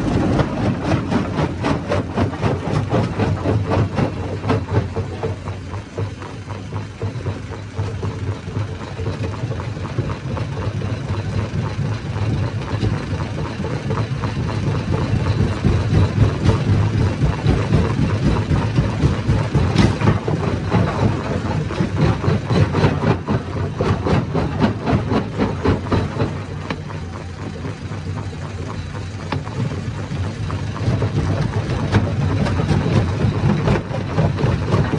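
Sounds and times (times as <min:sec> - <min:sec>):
stone crusher running: 0:00.0 - 0:34.9.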